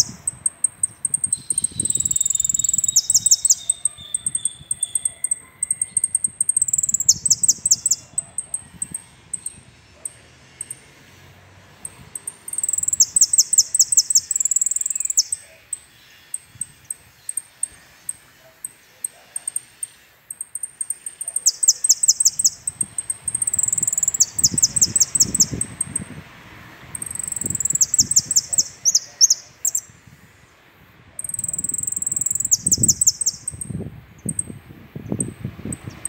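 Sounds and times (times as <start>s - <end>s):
finch singing: 0.0s - 10.8s, 11.8s - 26.1s, 27.0s - 30.0s, 31.2s - 36.0s
bird chirps: 0.0s - 10.9s, 11.8s - 26.1s, 27.0s - 30.0s, 31.2s - 36.0s.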